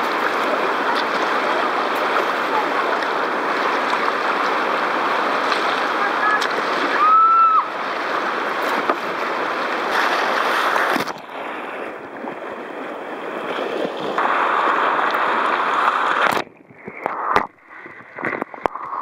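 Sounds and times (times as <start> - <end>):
whitewater rapids rushing: 0.0 - 16.4.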